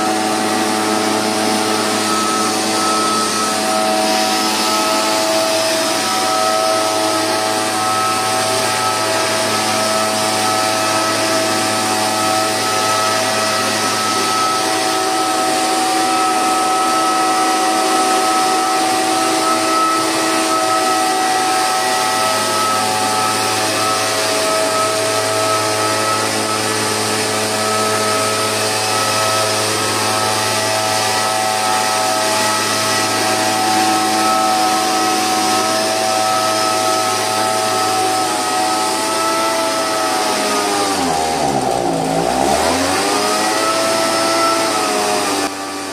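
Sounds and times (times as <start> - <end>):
fan blowing air: 0.0 - 45.9
mist blower engine running: 0.0 - 45.9.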